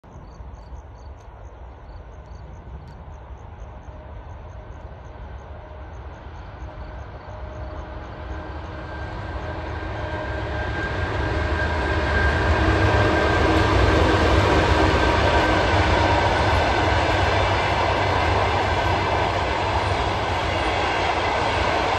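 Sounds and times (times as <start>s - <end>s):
passing train rumble: 0.0s - 21.9s
electric locomotive hum: 0.2s - 21.9s.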